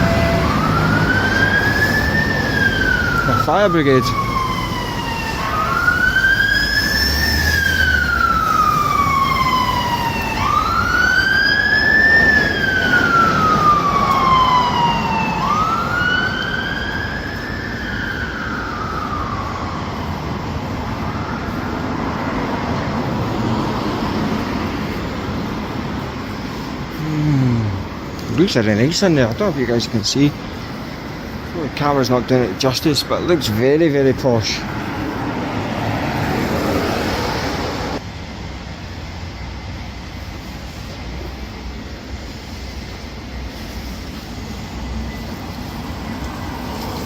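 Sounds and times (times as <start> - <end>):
fire engine siren wailing: 0.0 - 38.0, 42.1 - 47.0
street traffic noise: 0.0 - 47.0.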